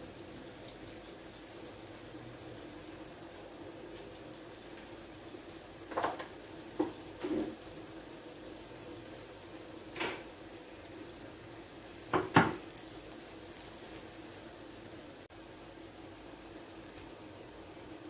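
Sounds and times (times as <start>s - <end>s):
sauce sizzling: 0.0s - 18.0s.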